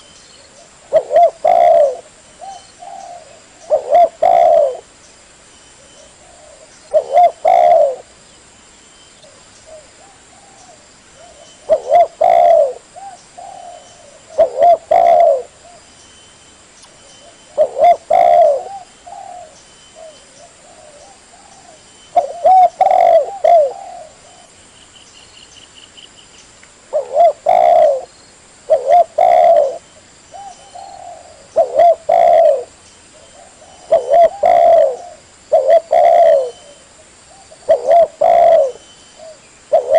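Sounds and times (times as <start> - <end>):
dove cooing: 0.0 - 4.9, 5.9 - 8.1, 9.3 - 15.8, 17.2 - 24.5, 26.9 - 28.1, 28.7 - 39.9.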